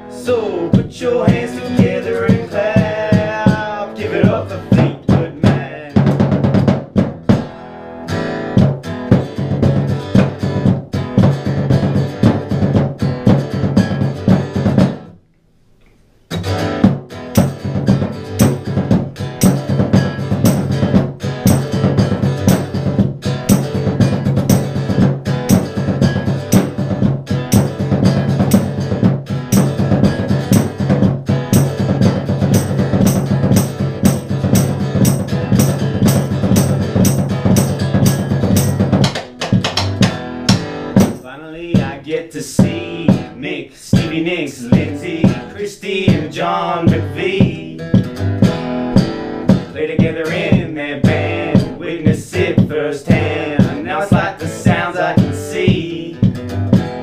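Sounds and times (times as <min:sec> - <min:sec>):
acoustic guitar strumming: 0:00.0 - 0:15.2, 0:16.3 - 0:57.0
drums played with sticks: 0:00.7 - 0:07.6, 0:08.5 - 0:15.1, 0:16.3 - 0:57.0.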